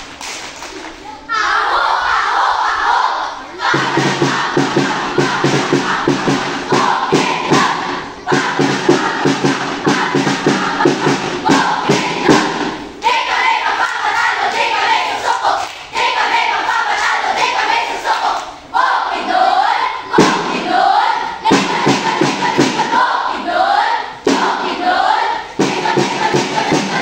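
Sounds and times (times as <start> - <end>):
children chanting in unison: 1.2 - 27.0.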